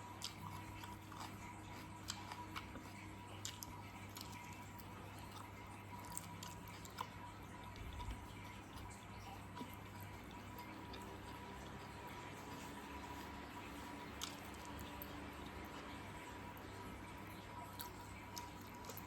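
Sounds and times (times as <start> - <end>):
person chewing meat: 0.0 - 19.0
steady low hum: 0.0 - 19.0.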